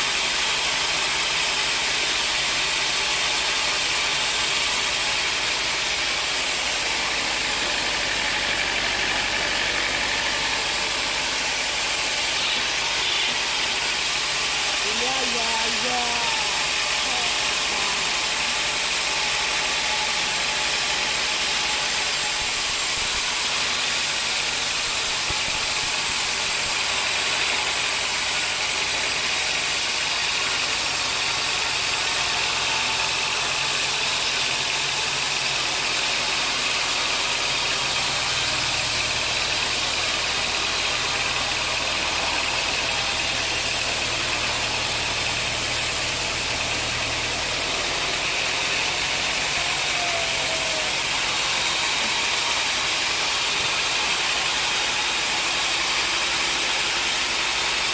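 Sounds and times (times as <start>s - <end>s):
sawmill machinery running: 0.0s - 57.9s.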